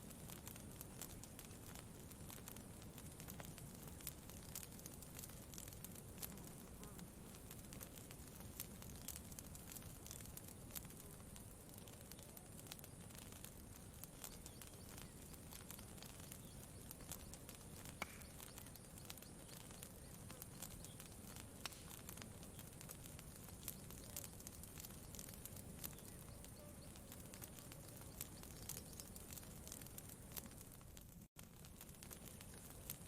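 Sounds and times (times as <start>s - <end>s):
faint campfire crackling: 0.0s - 33.0s.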